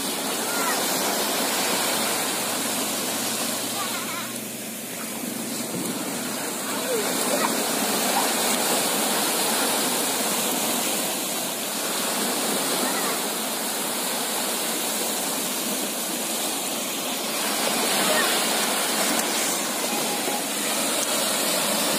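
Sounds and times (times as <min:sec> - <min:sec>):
small waves breaking: 0:00.0 - 0:21.9.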